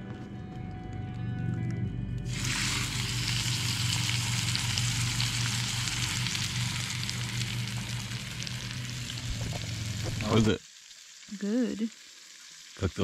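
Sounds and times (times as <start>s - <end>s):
low steady hum: 0.0s - 10.6s
steak sizzling in skillet: 2.3s - 13.0s.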